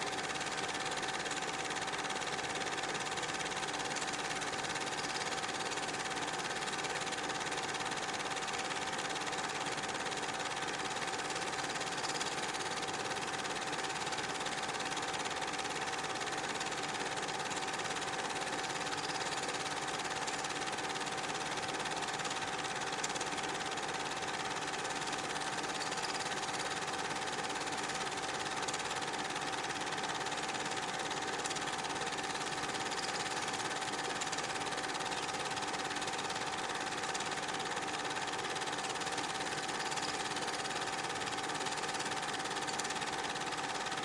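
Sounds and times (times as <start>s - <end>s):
film projector whirring: 0.0s - 44.0s.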